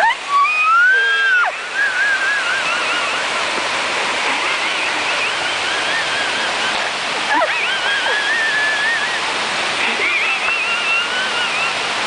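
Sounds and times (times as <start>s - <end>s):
waterfall rushing: 0.0s - 12.0s
wavering high calls: 0.3s - 3.4s, 4.4s - 12.0s.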